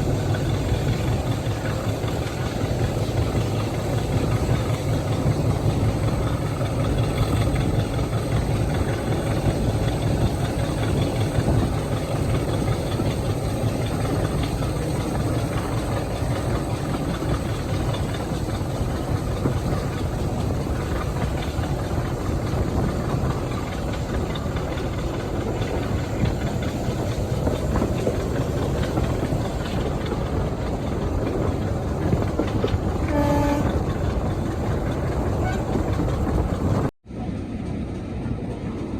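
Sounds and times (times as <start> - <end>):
diesel locomotive engine running: 0.0 - 38.9.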